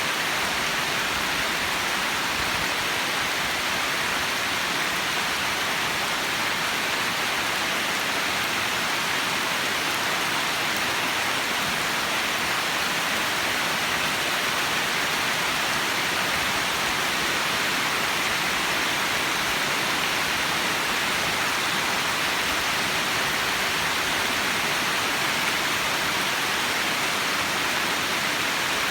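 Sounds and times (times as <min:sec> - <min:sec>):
heavy rain falling: 0:00.1 - 0:28.9.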